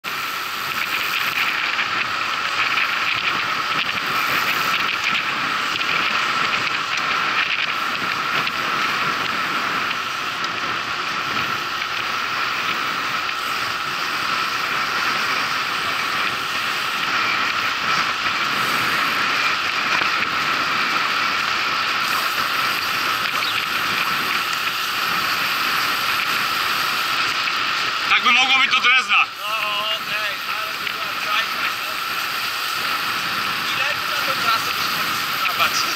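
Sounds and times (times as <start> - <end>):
bicycle tyres and wind rushing: 0.0 - 35.9
freewheel ticking: 0.0 - 35.9.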